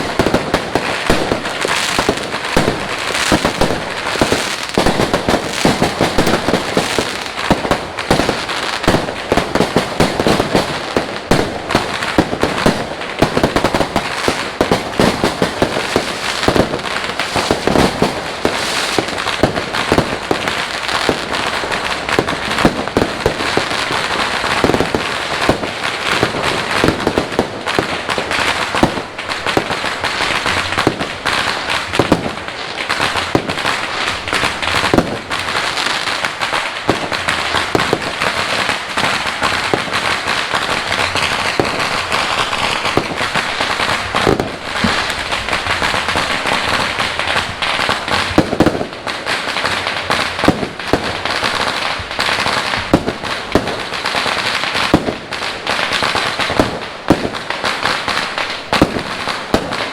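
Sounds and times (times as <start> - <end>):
firecracker bangs: 0.0 - 59.9
fireworks crackling: 0.0 - 59.9.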